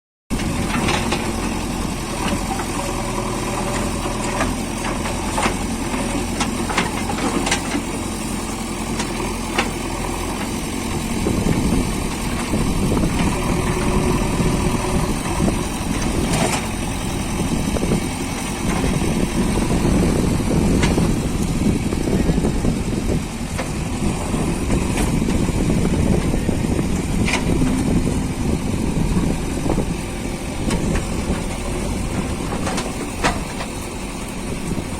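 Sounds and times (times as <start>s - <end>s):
diesel engine running: 0.3s - 34.9s.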